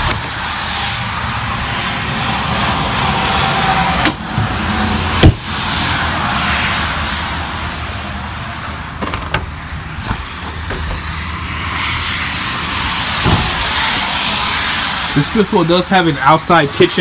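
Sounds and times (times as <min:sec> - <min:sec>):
distant vehicle rumble: 0:00.0 - 0:17.0.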